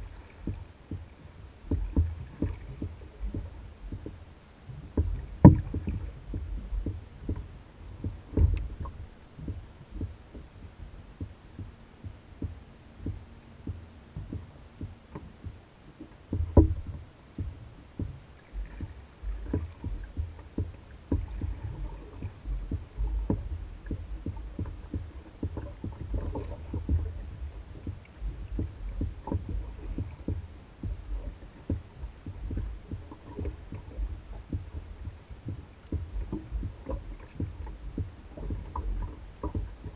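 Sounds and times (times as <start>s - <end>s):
water lapping against canoe hull: 0.0s - 39.9s
hollow knocks on hull: 0.2s - 39.9s.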